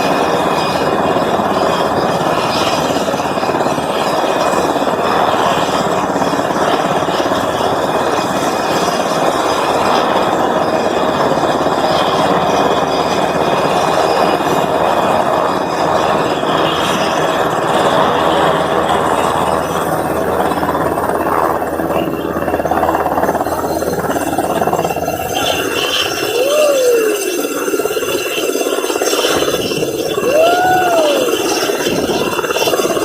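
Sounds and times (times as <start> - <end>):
helicopter engines and rotor: 0.0 - 33.0
high turbine whine: 0.0 - 33.0.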